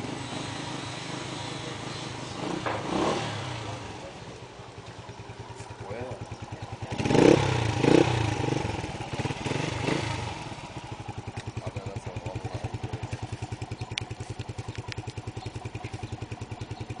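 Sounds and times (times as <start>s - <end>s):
motorcycle engine revving and idling: 0.0s - 17.0s.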